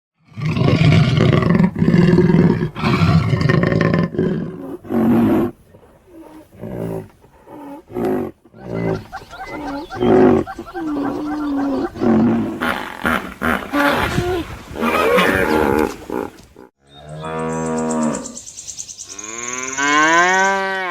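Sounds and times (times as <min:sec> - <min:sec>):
large animal calling: 0:01.2 - 0:18.4.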